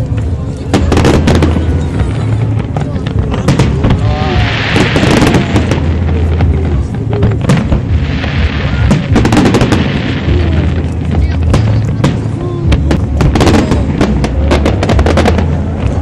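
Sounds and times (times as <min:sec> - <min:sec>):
fireworks bursting with sharp bangs: 0:00.0 - 0:16.0
fireworks crackling: 0:00.0 - 0:16.0.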